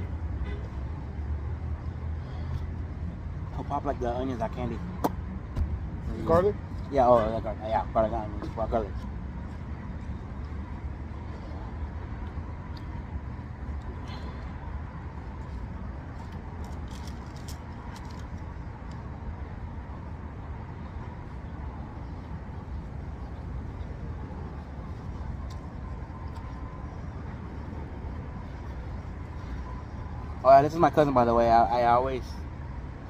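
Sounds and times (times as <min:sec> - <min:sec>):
vehicle rumble: 0:00.0 - 0:33.0.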